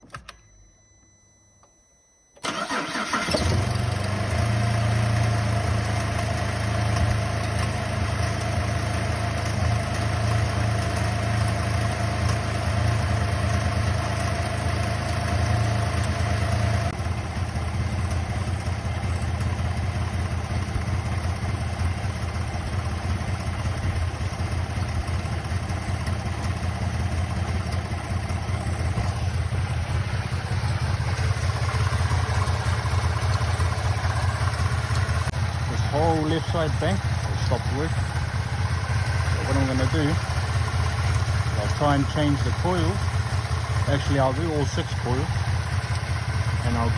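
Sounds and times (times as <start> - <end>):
car engine idling roughly: 2.4 - 46.9
car engine starting: 2.4 - 46.9.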